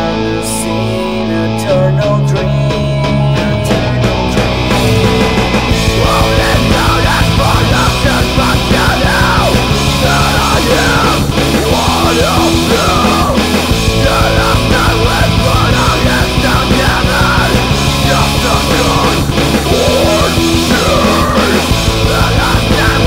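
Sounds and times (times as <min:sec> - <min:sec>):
loud post-hardcore band music: 0:00.0 - 0:23.0.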